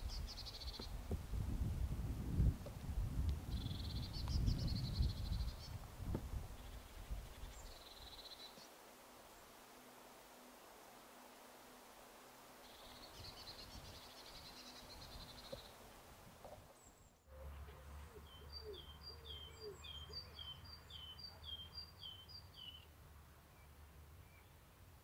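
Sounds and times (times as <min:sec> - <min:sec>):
faint low wind rumble: 0:00.0 - 0:21.0.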